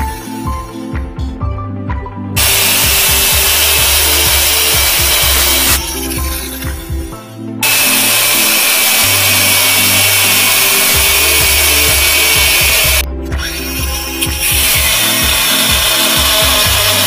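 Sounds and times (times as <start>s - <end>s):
angle grinder cutting steel: 2.4s - 17.0s.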